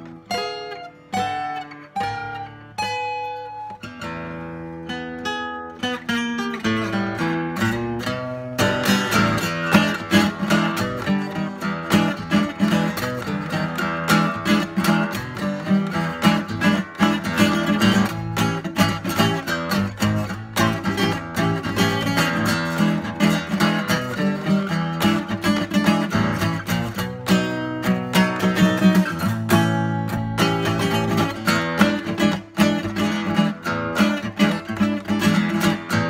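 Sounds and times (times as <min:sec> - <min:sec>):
acoustic guitar picked and strummed: 0:00.0 - 0:36.0.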